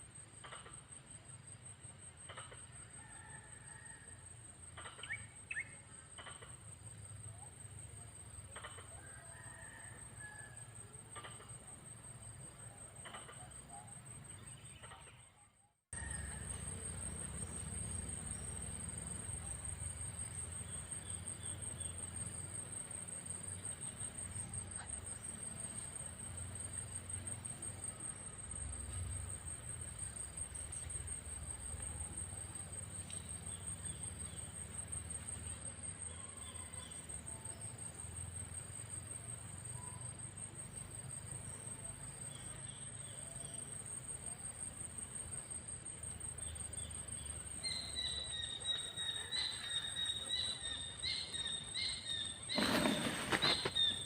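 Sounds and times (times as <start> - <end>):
insect high-pitched pulsing trill: 0.4 - 54.0.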